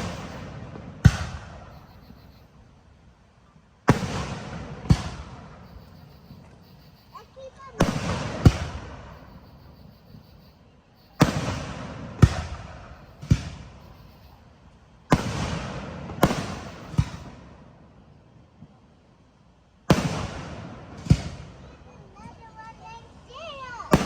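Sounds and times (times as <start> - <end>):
fireworks bangs with rolling echo: 0.0 - 2.6, 3.8 - 10.3, 11.0 - 18.8, 19.8 - 24.0.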